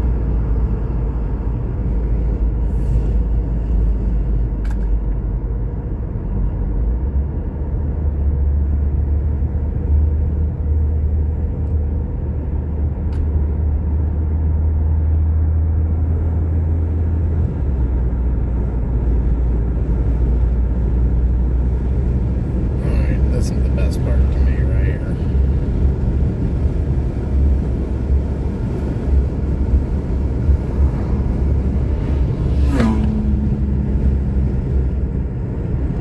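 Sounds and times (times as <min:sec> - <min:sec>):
car road and engine rumble: 0:00.0 - 0:36.0.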